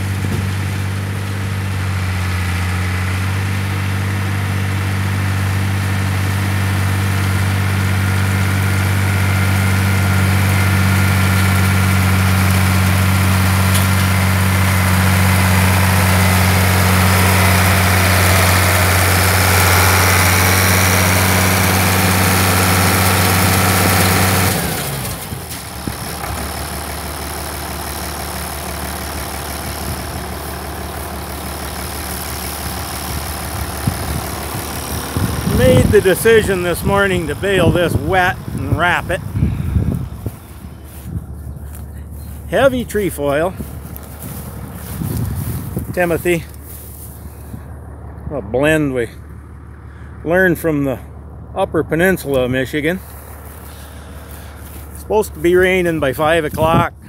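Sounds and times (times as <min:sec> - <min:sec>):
baler machinery working: 0:00.0 - 0:47.9
tractor diesel engine running: 0:00.0 - 0:57.0.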